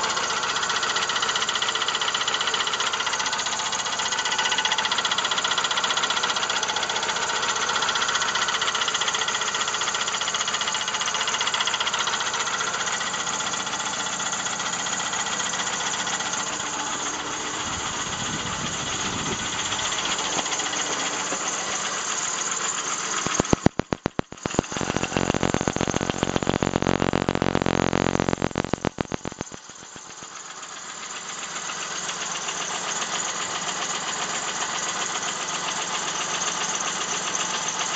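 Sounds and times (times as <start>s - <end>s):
engine running with rhythmic knock: 0.0s - 37.9s.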